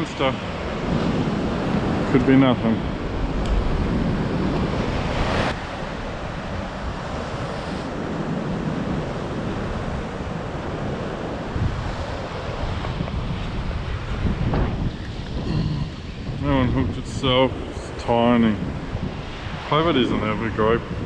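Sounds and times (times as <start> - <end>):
ocean swell washing over rock: 0.0 - 21.0
wind on microphone: 0.0 - 21.0.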